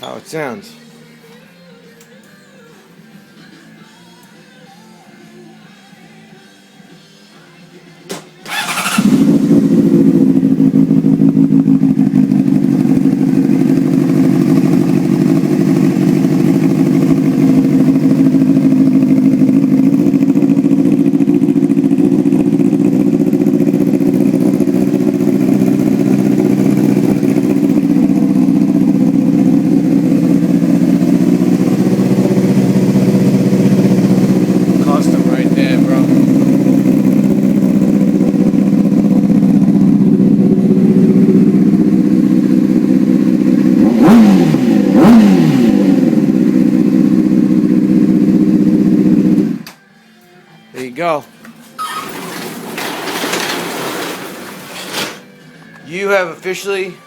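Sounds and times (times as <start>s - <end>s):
motorcycle engine starting and idling: 8.1s - 49.8s, 50.9s - 57.0s.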